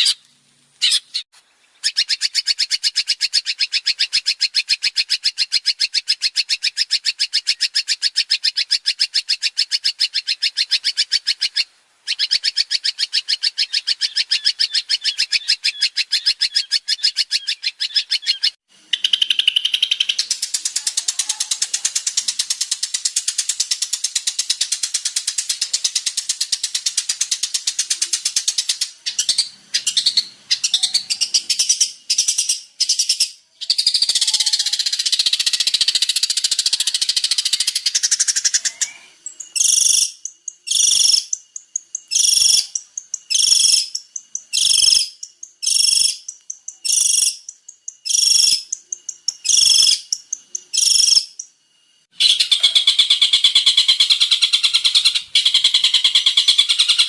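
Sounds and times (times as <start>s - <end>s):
bird singing high repeated notes: 1.8s - 57.0s.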